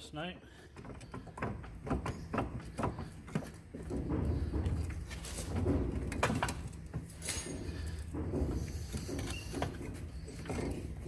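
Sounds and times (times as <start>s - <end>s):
metal knocks and scrapes: 0.9s - 11.0s.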